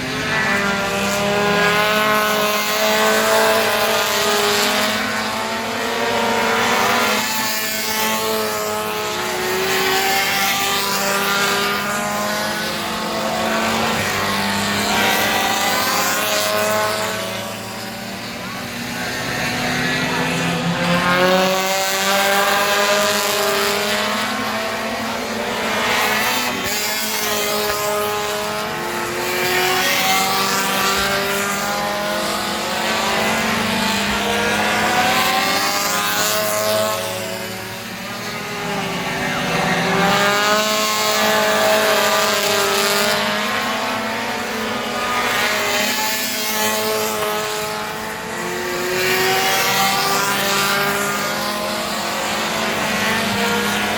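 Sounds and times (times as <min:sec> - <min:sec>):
race car engines revving: 0:00.0 - 0:53.9.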